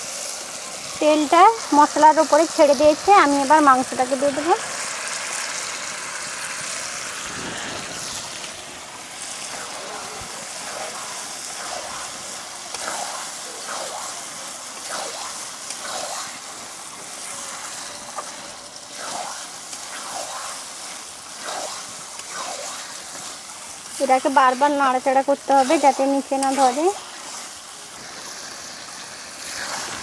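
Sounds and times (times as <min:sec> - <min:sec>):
meat sizzling in hot oil: 0:00.0 - 0:30.0.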